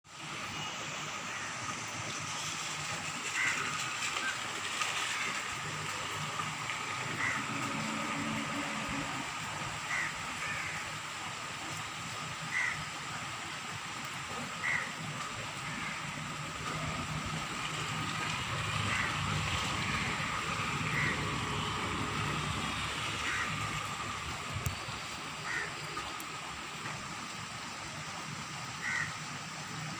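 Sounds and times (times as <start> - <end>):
steady rainfall: 0.1 - 29.9.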